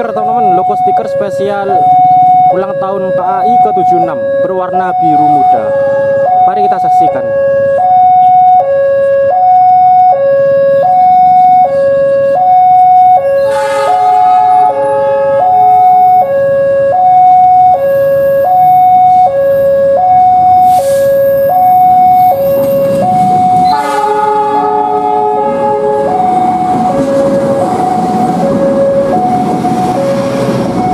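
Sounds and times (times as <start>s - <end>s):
level crossing two-tone alarm: 0.0s - 30.9s.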